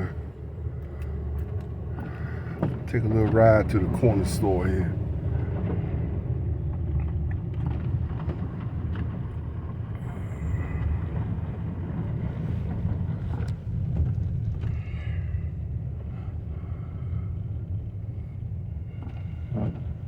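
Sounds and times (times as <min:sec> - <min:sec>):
car driving on snowy road: 0:00.0 - 0:20.0.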